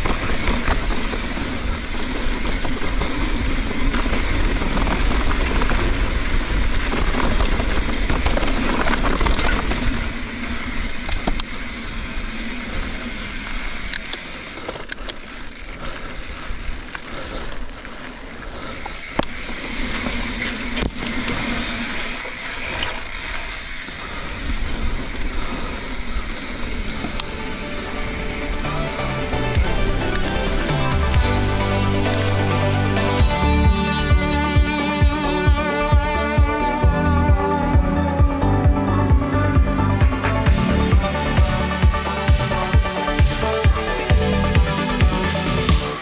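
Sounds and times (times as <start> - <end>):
bike clicking and rattling: 0.0 - 46.0
bike tyres on dirt: 0.0 - 46.0.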